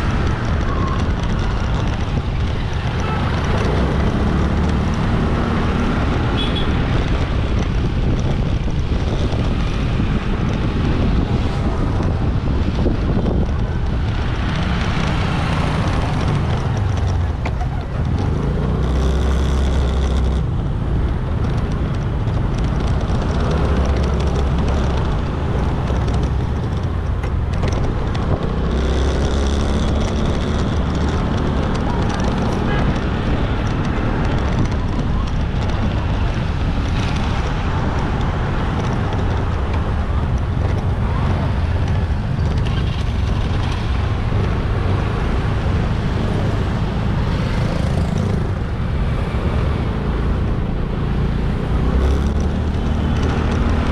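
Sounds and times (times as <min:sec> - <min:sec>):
motorbike engine: 0:00.0 - 0:53.9
passing vehicles: 0:00.0 - 0:53.9
wind buffeting on microphone: 0:00.0 - 0:53.9.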